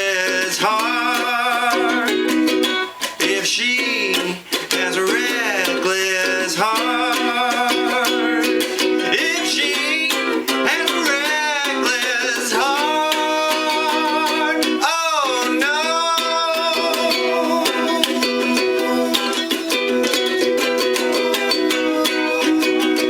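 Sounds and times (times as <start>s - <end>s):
ukulele strumming: 0.0s - 23.0s
wordless singing voice: 0.0s - 23.0s.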